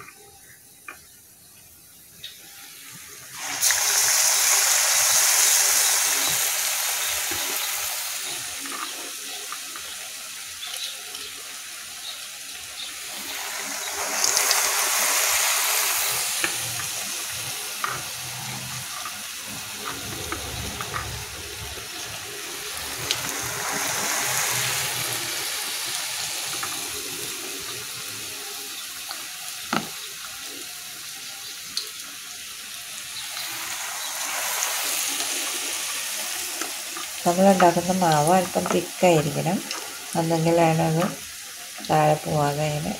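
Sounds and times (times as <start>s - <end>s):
hot oil sizzling: 0.0s - 42.9s.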